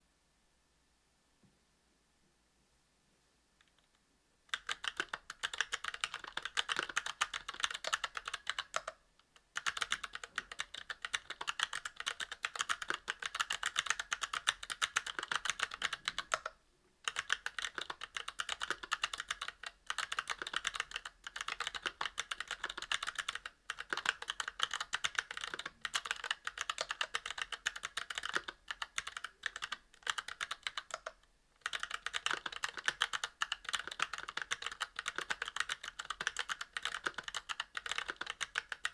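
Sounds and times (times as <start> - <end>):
fast mechanical keyboard typing: 4.5 - 9.0, 9.6 - 16.5, 17.1 - 38.9.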